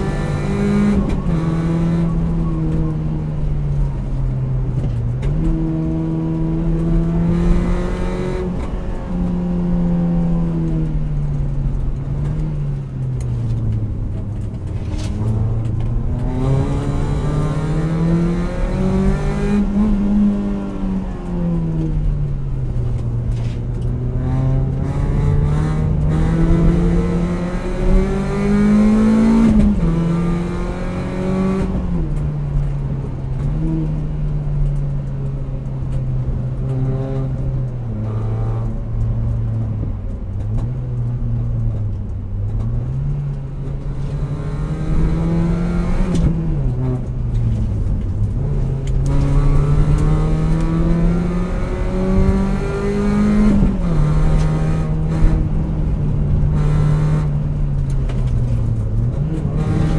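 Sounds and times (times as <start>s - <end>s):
car engine revving: 0.0s - 59.9s
road noise inside car: 0.0s - 59.9s.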